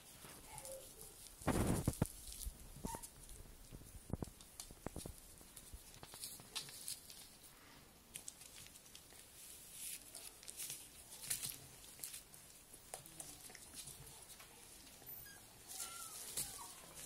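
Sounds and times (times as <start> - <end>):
puppies rustling on paper: 0.0 - 17.0.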